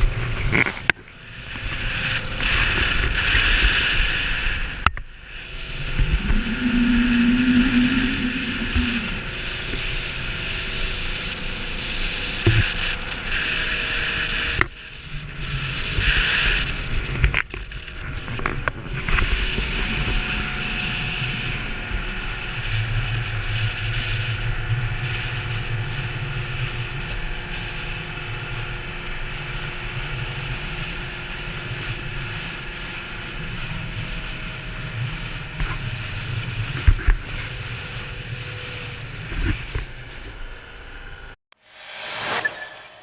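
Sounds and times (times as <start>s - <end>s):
rushing wind and water: 0.0s - 40.0s
speedboat engine running: 0.0s - 41.4s.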